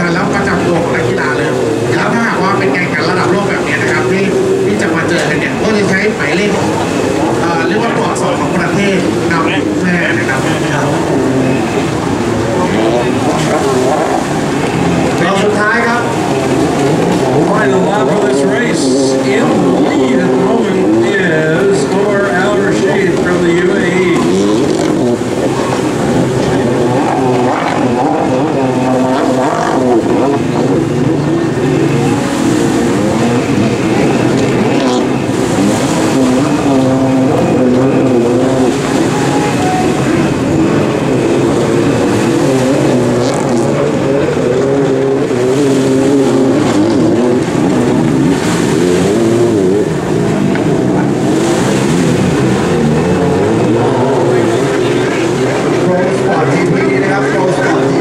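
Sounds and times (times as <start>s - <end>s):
jet ski engines revving: 0.0s - 58.0s
steady rushing noise: 0.0s - 58.0s.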